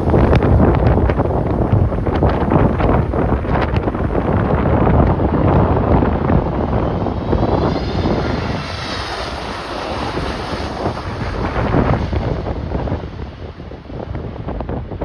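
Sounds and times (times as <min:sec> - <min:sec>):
faint engine whine: 0:00.0 - 0:15.0
jet airliner engines: 0:00.0 - 0:15.0
wind buffeting the microphone: 0:00.0 - 0:15.0.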